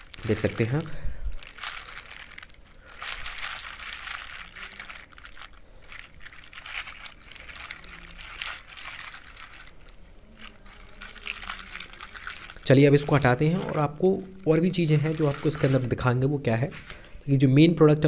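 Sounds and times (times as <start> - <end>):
plastic bag crinkling: 0.0 - 16.1.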